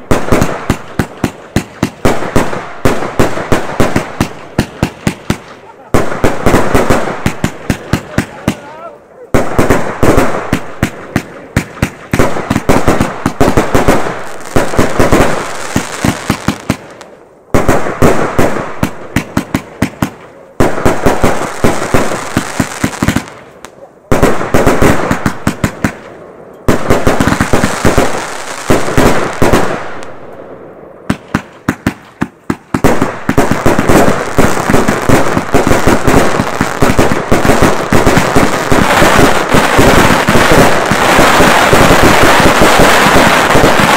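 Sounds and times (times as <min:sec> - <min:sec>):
fireworks popping: 0:00.0 - 0:30.4, 0:31.1 - 0:43.9
fireworks bangs: 0:00.0 - 0:43.9
fireworks crackling: 0:00.0 - 0:43.9.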